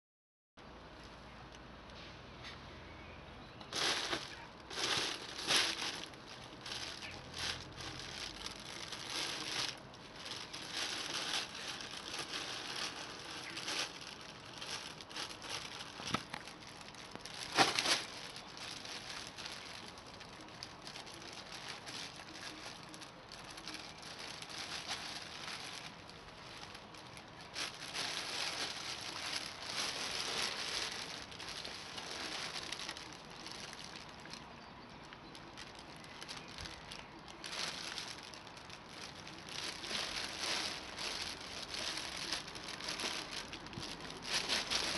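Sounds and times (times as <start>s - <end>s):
fabric tunnel rustling and crinkling: 3.5s - 44.9s.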